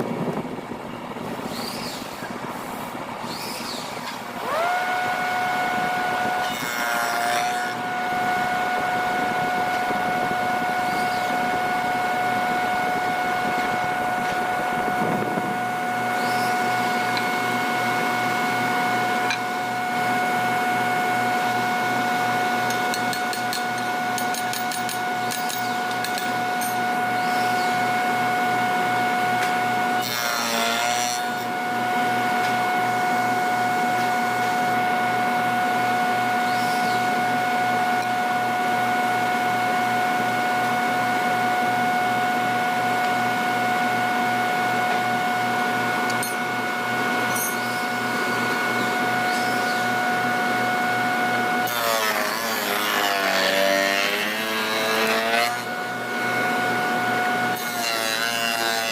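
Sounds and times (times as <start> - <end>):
power tool whining: 3.2 - 58.9.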